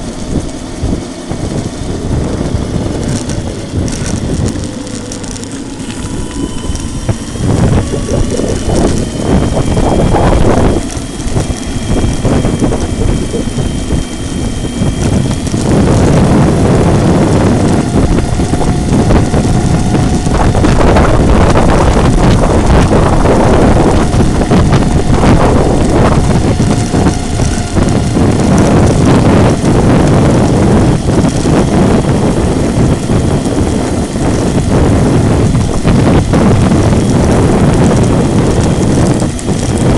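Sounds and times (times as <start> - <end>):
electric motor whine: 0.0 - 39.9
tyres rumbling over paving: 0.0 - 39.9
wind buffeting microphone: 0.0 - 39.9.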